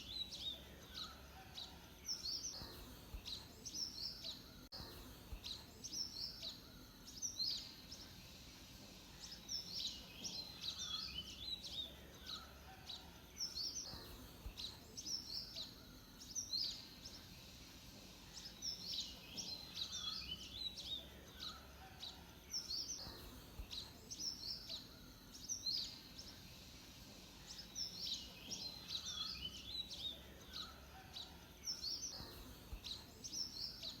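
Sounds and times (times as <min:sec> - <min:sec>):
faint background noise: 0:00.0 - 0:34.0
songbird singing swooping notes: 0:02.0 - 0:12.6, 0:13.4 - 0:21.7, 0:22.5 - 0:30.8, 0:31.6 - 0:34.0.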